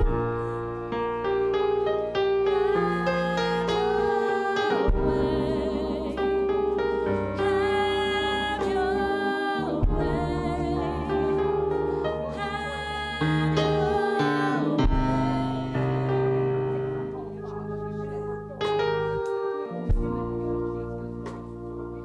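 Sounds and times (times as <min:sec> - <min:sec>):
slow worship music on keyboard: 0:00.0 - 0:22.0.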